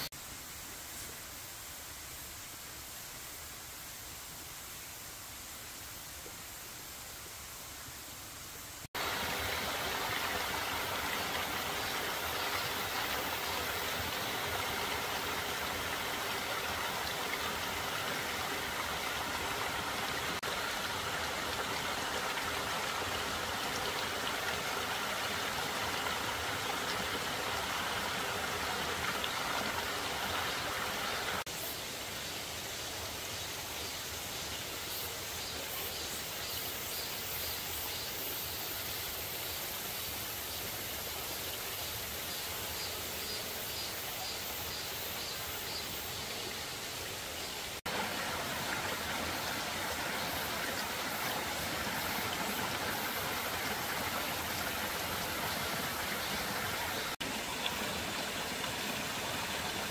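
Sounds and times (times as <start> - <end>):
stream running water: 0.0 - 59.9.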